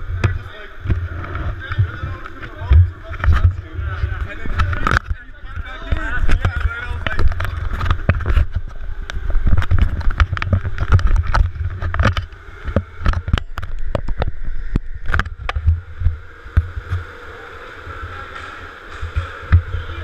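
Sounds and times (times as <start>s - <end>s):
muffled low rumble: 0.0s - 20.0s.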